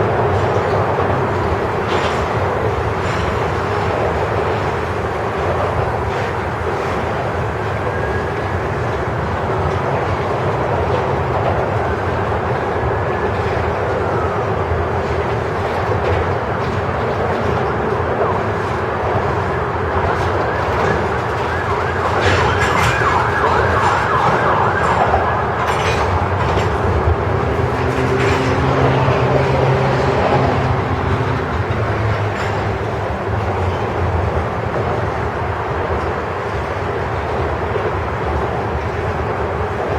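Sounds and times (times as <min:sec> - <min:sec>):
freight train wheels on rail: 0:00.0 - 0:39.9.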